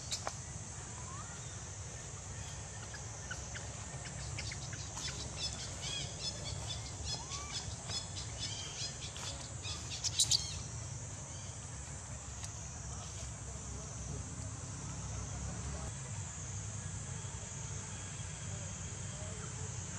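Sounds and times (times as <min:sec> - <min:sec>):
steady high hiss: 0:00.0 - 0:19.9.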